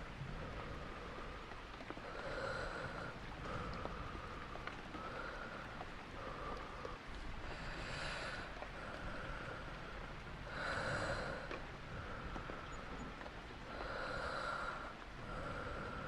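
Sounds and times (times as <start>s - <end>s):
person breathing close up: 0.0s - 12.8s, 13.7s - 16.0s
steady rain: 0.0s - 16.0s.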